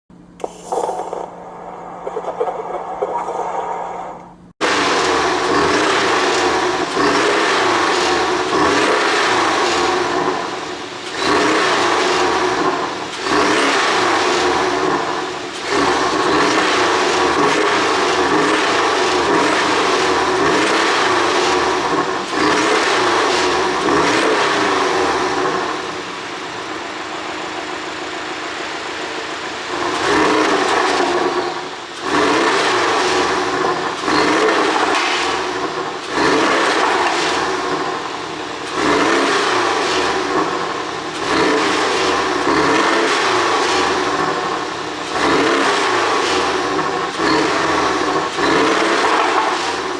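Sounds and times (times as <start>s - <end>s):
car engine revving: 0.7s - 49.9s.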